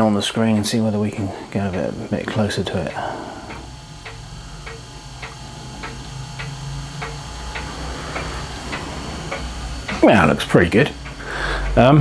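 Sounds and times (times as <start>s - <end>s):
low steady hum: 0.0s - 12.0s
regular light ticking: 0.7s - 2.8s, 3.4s - 12.0s.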